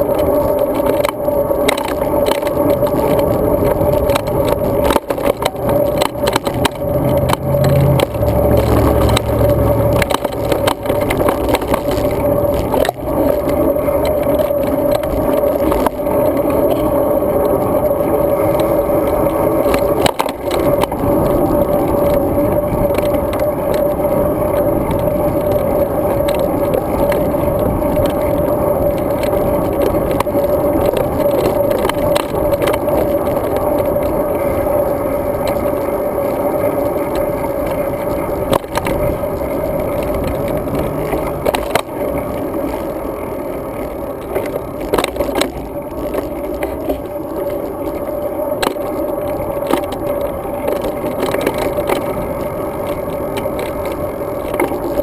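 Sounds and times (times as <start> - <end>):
road bike riding rumble: 0.0 - 55.0.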